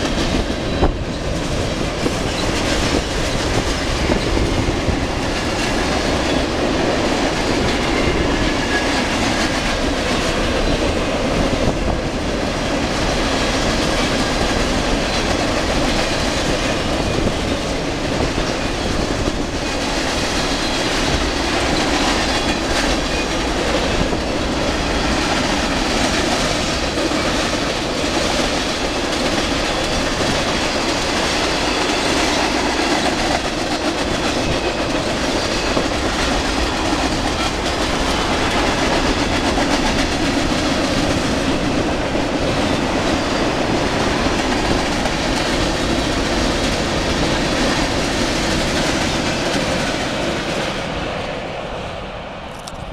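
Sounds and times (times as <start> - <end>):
train wheel clacks: 0.0 - 51.1
steel wheels rumbling on rails: 0.0 - 52.9.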